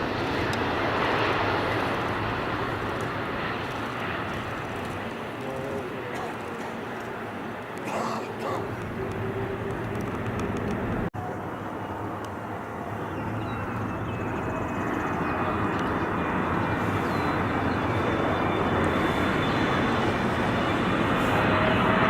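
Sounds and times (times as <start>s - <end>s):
airliner engines roaring: 0.0s - 22.0s.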